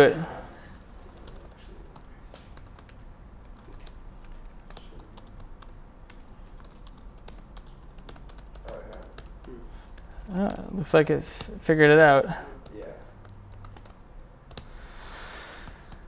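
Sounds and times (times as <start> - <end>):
computer keyboard typing: 0.7 - 14.8, 15.5 - 16.0.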